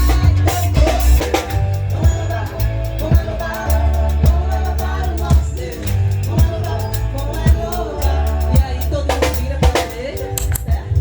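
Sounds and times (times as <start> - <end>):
electric bass notes: 0.0 - 10.9
drum kit strikes: 0.0 - 11.0
person singing: 0.0 - 11.0.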